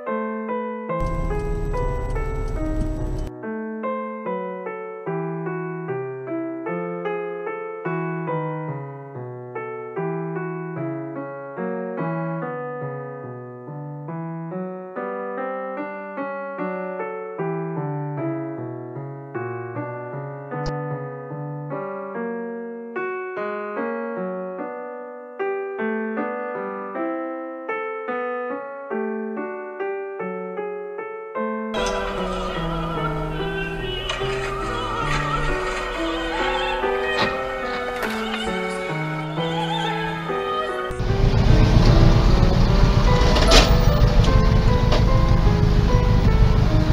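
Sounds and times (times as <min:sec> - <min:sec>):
solo piano music: 0:00.0 - 0:46.9.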